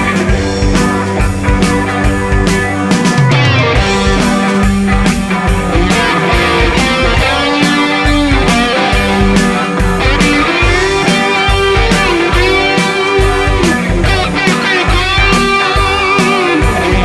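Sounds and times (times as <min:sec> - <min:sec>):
rock music with guitar and drums: 0:00.0 - 0:17.0.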